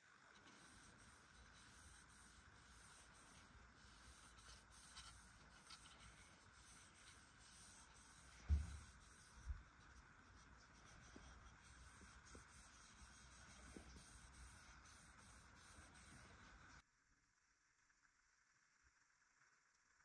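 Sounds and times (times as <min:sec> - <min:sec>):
cloth rubbing on wooden handle: 0:00.4 - 0:16.8.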